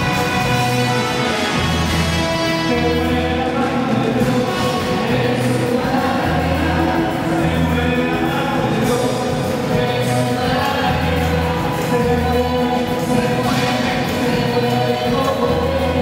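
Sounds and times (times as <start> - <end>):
instrumental accompaniment: 0.0 - 16.0
repeating low bass line: 0.0 - 16.0.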